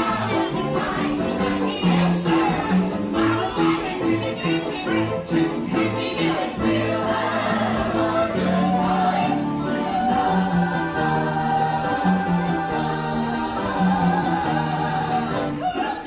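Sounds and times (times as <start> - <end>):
bouncy two-beat accompaniment: 0.0 - 16.0
cast singing together: 0.0 - 16.0.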